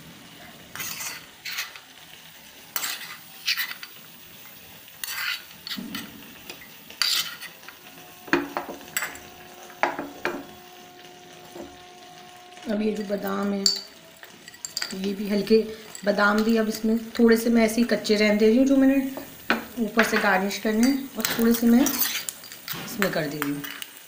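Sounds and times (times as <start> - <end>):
ghee sizzling: 0.0 - 24.0
steel spoon scraping pan: 0.7 - 1.9, 2.7 - 4.0, 5.0 - 23.9.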